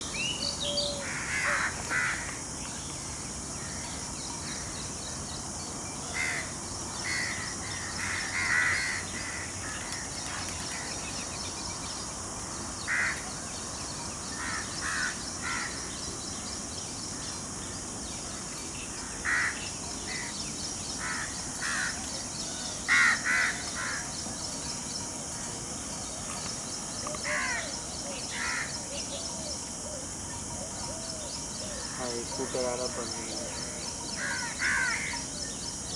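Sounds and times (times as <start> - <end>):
steady high-pitched hiss: 0.0 - 35.9
birds calling: 6.1 - 35.9.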